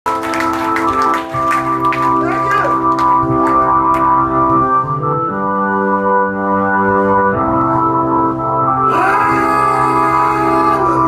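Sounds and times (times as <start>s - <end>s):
sustained organ chords: 0.1s - 11.0s.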